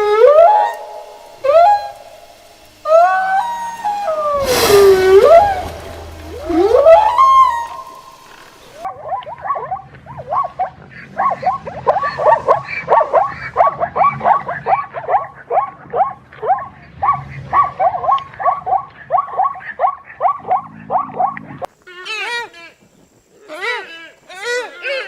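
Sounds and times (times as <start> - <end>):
animals yelping: 0.0 - 22.8.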